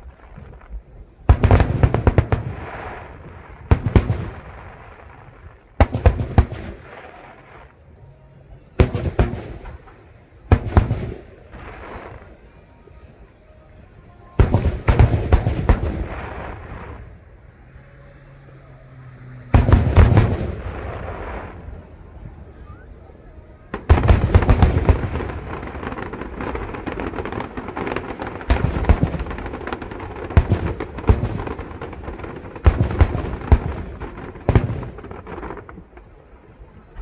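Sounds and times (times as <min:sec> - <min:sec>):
fireworks bursting with crackle: 0:00.0 - 0:37.0.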